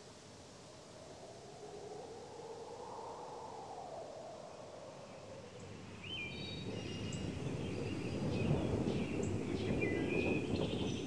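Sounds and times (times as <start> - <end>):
wind rustling: 0.0 - 11.0.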